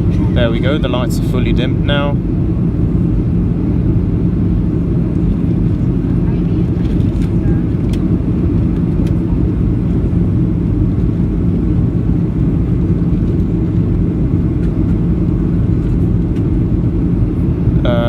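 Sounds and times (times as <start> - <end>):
airplane cabin engine rumble: 0.0 - 18.0
steady hum: 0.0 - 18.0.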